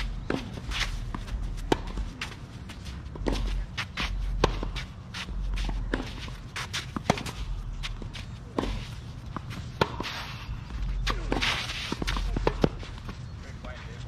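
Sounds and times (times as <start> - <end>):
footsteps on hard court: 0.0 - 14.0
sneaker squeaks: 0.0 - 14.0.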